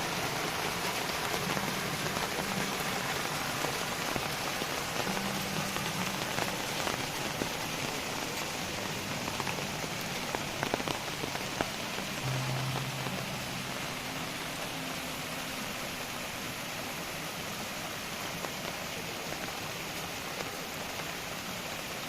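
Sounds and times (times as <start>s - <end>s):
heavy rain falling: 0.0s - 22.0s
water drips and splashes: 0.0s - 22.0s.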